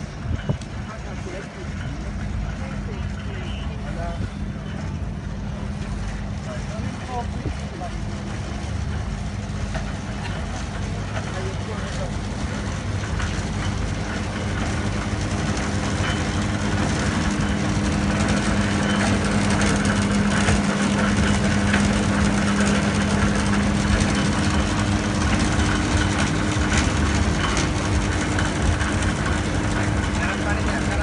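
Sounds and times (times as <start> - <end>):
machine motor humming: 0.0 - 31.0.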